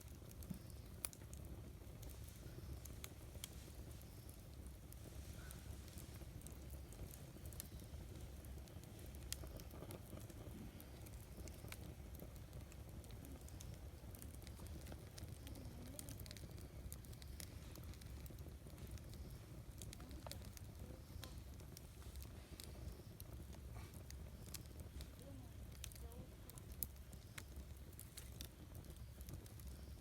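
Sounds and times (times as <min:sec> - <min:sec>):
campfire crackling: 0:00.0 - 0:30.0
low fire rumble: 0:00.0 - 0:30.0.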